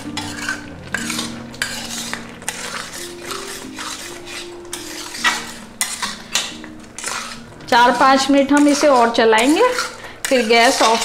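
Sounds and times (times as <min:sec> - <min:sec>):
metal spatula scraping iron pan: 0:00.0 - 0:11.0.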